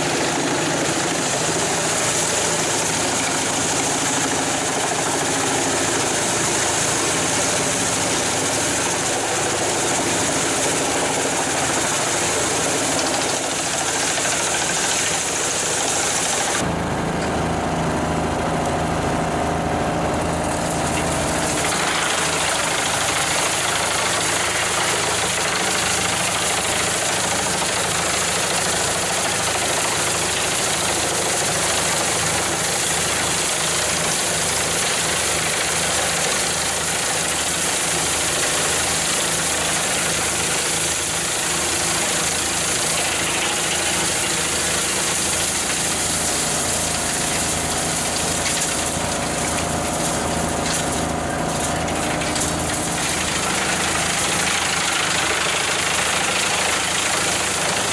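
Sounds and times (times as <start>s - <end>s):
heavy machinery engine running: 0.0s - 57.9s.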